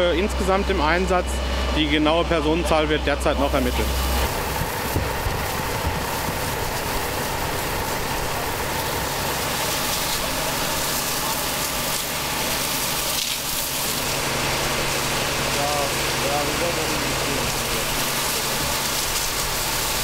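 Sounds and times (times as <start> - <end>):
continuous hiss: 0.0 - 20.0
engines idling: 0.0 - 20.0.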